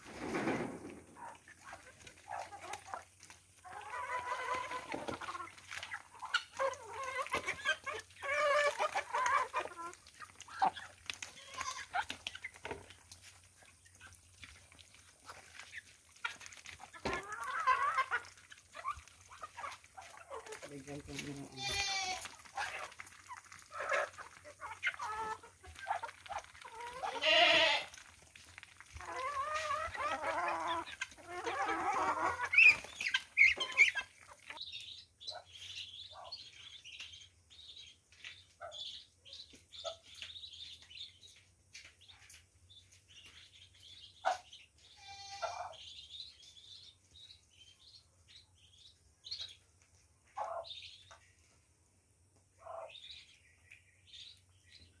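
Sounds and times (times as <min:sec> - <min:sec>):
ducklings peeping: 0:00.7 - 0:27.3, 0:27.9 - 0:51.7, 0:52.4 - 0:55.0.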